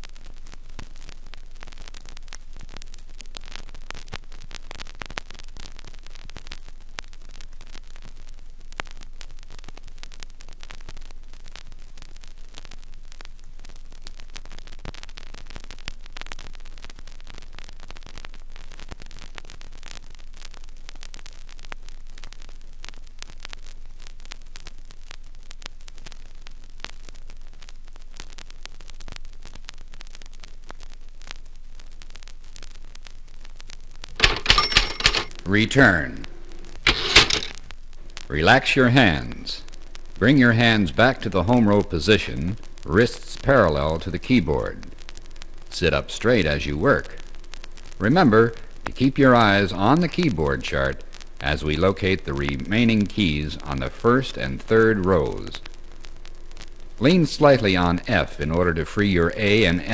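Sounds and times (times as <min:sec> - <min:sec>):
vinyl record crackle and hiss: 0:00.0 - 0:59.9.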